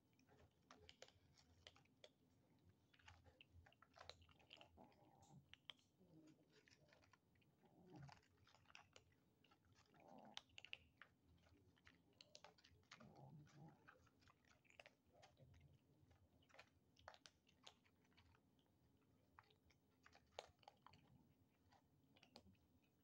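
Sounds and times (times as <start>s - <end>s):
kittens crunching kibble: 0.0s - 23.0s.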